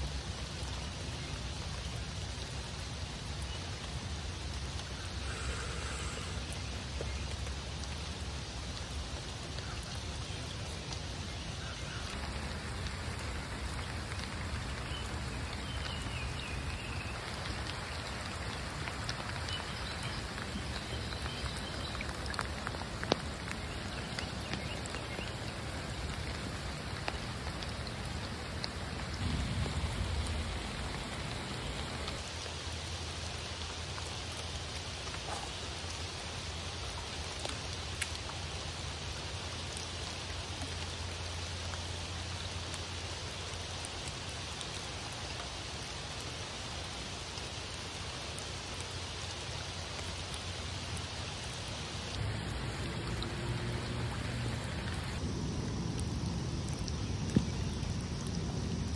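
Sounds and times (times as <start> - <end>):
rain falling on water and rocks: 0.0 - 58.9.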